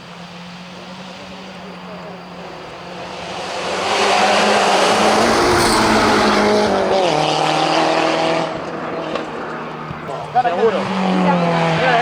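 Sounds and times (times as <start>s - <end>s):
rally car engine at full throttle: 0.0s - 12.0s.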